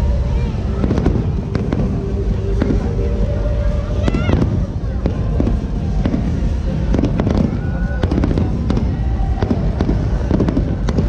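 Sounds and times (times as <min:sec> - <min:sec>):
fireworks bangs and crackles: 0:00.0 - 0:11.0
low rumble: 0:00.0 - 0:11.0.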